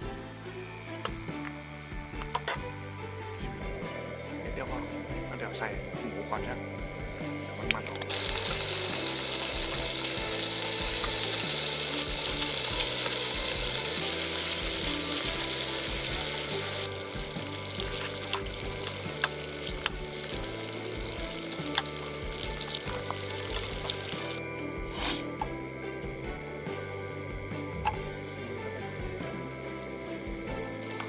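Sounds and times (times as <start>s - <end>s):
hiss with light crackle: 0.0s - 31.0s
music with slow bass line: 0.0s - 31.0s.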